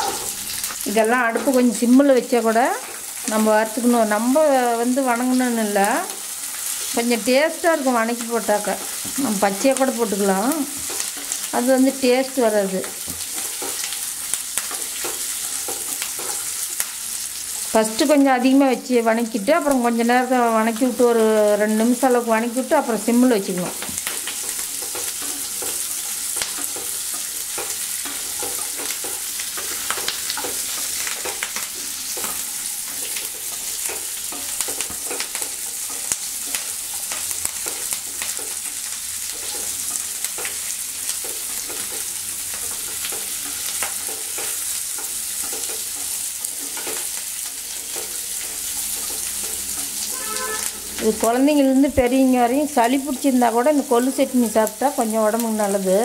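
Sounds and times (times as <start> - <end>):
oil sizzling in a pan: 0.0 - 56.0.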